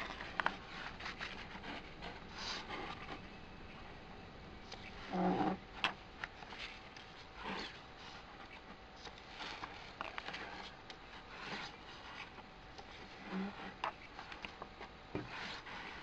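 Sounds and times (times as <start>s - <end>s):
book pages turning: 0.0s - 3.3s, 4.6s - 5.1s, 5.7s - 16.0s.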